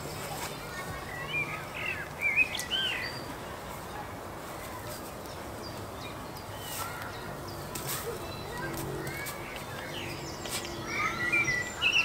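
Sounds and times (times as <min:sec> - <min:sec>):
outdoor background noise: 0:00.0 - 0:12.0
small birds twittering: 0:00.0 - 0:12.0.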